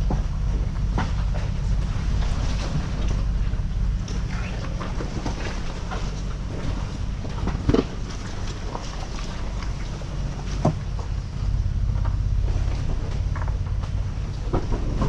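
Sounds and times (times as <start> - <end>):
knocks and creaks from rocks: 0.0 - 15.0
off-road vehicle engine and tyre rumble: 0.0 - 15.0.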